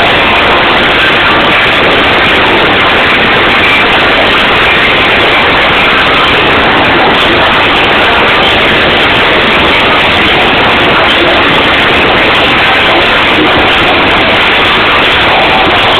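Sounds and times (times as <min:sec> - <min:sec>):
distorted hardcore band: 0:00.0 - 0:15.9.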